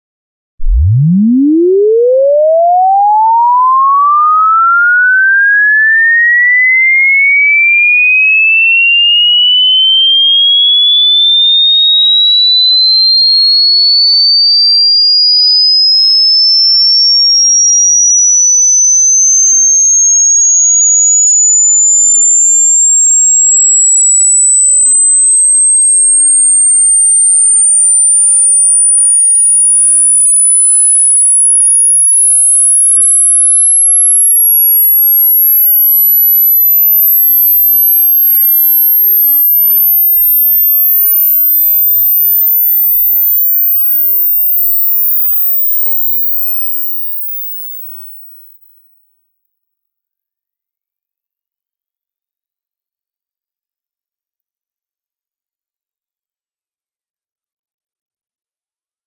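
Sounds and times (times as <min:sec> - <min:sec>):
rising sine tone sweep: 0:00.6 - 0:06.8, 0:08.7 - 0:56.6.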